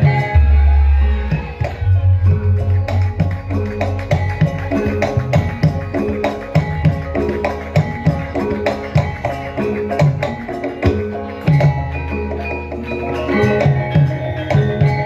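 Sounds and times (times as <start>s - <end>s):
ringing metallic gamelan tones: 0.0s - 15.0s.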